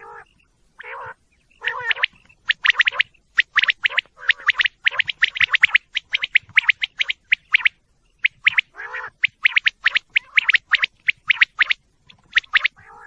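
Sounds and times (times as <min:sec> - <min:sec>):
quail chirping: 0:00.0 - 0:13.0.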